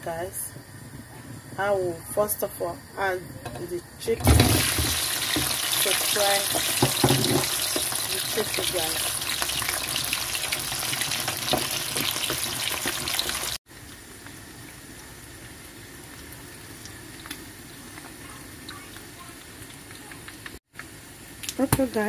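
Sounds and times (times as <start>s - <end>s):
chicken sizzling in oil: 4.0s - 22.0s.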